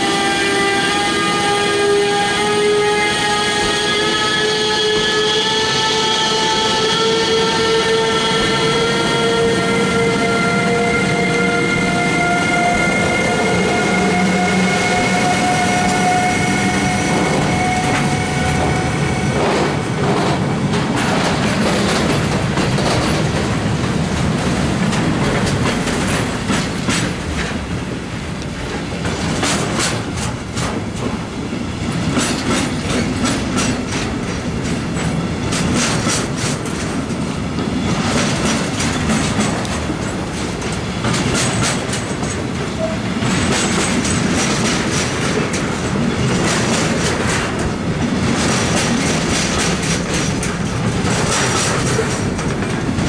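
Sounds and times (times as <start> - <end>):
wheels clacking on rails: 0.7 - 53.0.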